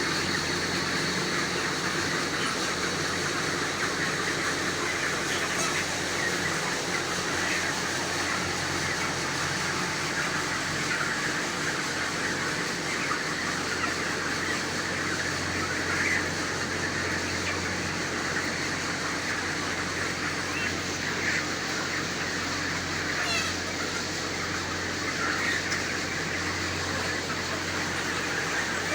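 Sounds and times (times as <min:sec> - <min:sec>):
chickens chattering: 0:00.0 - 0:28.9.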